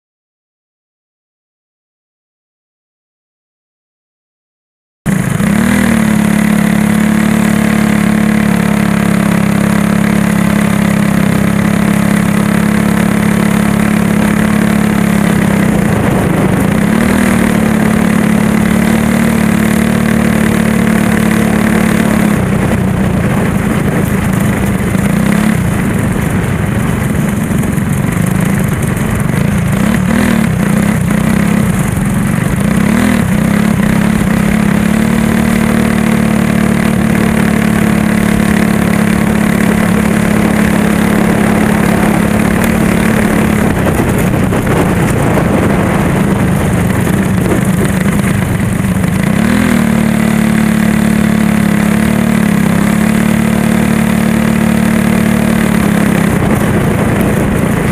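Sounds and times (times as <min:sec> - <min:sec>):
go-kart engine running hard: 0:05.1 - 0:57.9.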